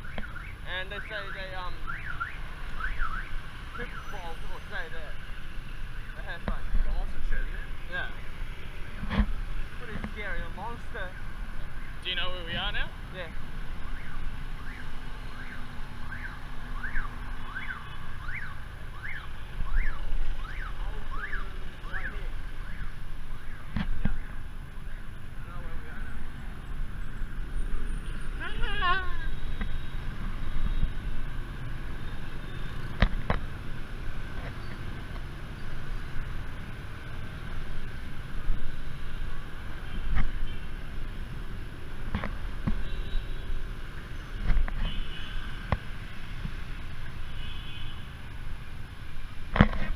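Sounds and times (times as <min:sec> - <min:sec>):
motorbike engines rumbling: 0:00.0 - 0:49.9
traffic: 0:00.0 - 0:49.9.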